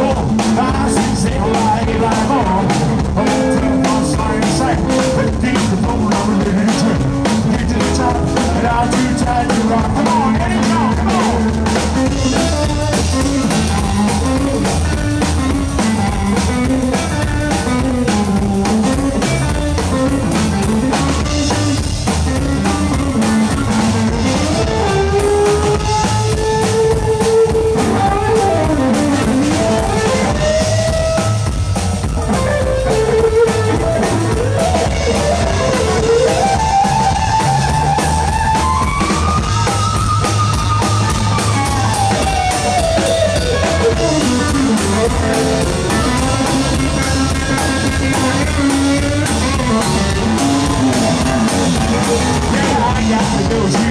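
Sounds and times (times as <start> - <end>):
drum kit: 0.0 - 53.9
electric guitar lead line: 0.0 - 53.9
upright bass: 0.0 - 53.9.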